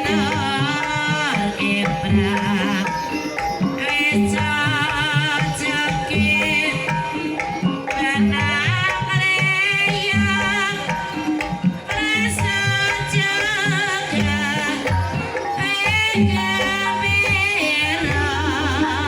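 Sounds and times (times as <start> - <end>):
hand drums beating: 0.0 - 19.0
held bronze instrument notes: 0.0 - 19.0.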